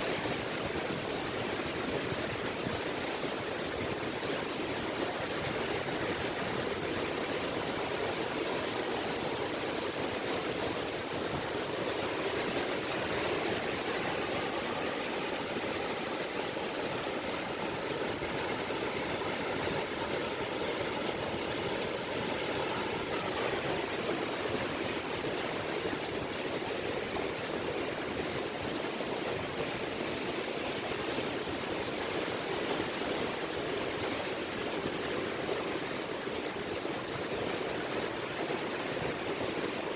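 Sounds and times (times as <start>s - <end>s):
faint steady hum: 0.0s - 39.9s
sea ripples washing on beach: 0.0s - 39.9s.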